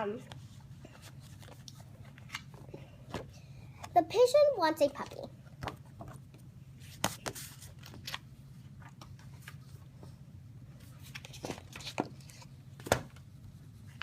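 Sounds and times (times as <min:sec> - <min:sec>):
steady low hum: 0:00.0 - 0:14.0
pages turning: 0:00.2 - 0:03.2, 0:05.0 - 0:10.1, 0:10.8 - 0:14.0.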